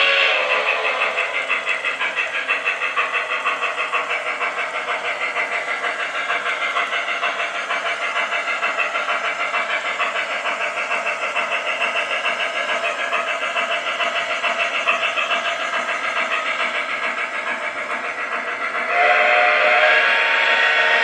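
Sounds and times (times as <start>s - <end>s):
model train steam chuffing: 0.0s - 21.0s.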